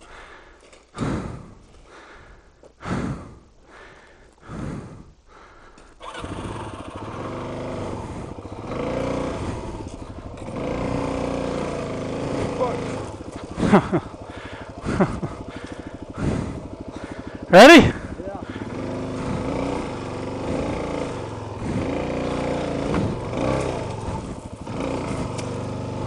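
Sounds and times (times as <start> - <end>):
motorcycle engine starting and revving: 0.1 - 1.8, 5.8 - 26.0.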